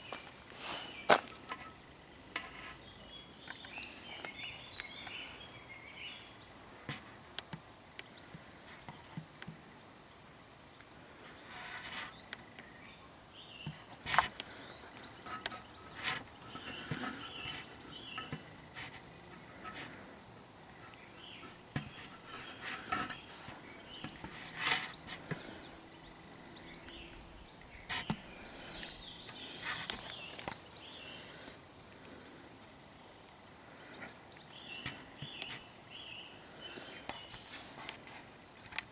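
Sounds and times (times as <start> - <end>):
faint background ambience: 0.0 - 38.9.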